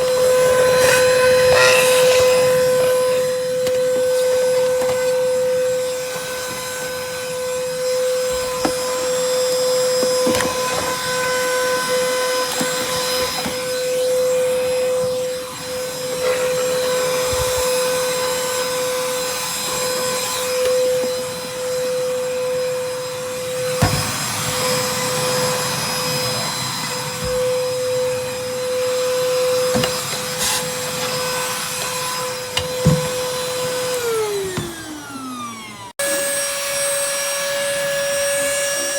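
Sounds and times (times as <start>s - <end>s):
handheld vacuum cleaner whine: 0.0s - 38.9s.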